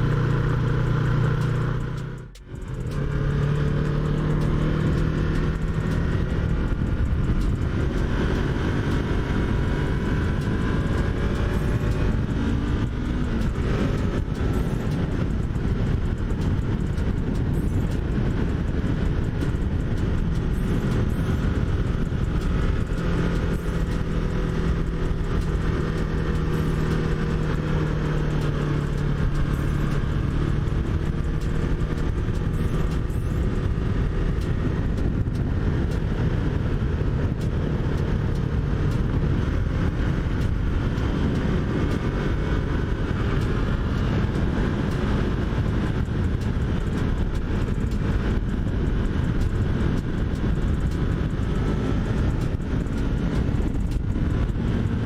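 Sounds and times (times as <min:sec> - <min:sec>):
motorcycle engine cruising: 0:00.0 - 0:55.0
road rumble: 0:00.0 - 0:55.0
wind rush: 0:00.0 - 0:55.0.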